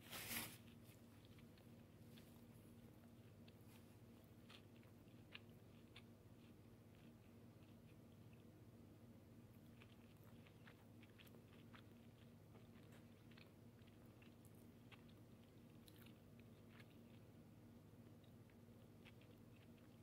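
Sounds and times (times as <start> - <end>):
person chewing food: 0.2 - 20.0.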